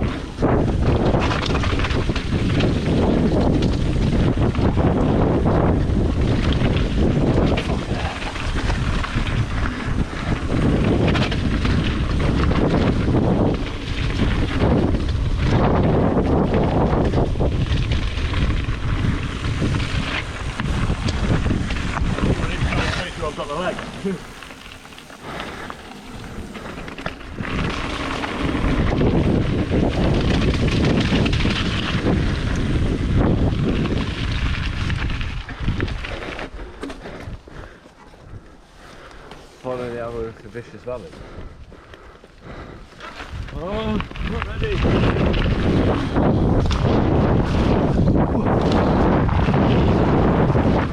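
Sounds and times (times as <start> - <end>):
bike clattering and rattling: 0.0 - 50.9
wind buffeting microphone: 0.0 - 50.9.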